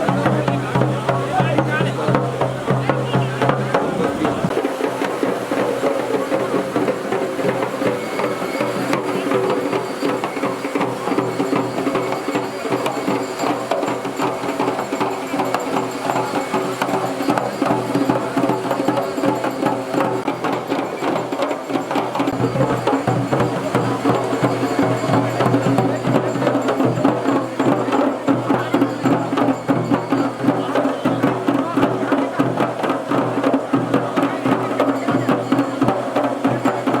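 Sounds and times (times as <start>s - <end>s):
drums playing fast beat: 0.0s - 37.0s.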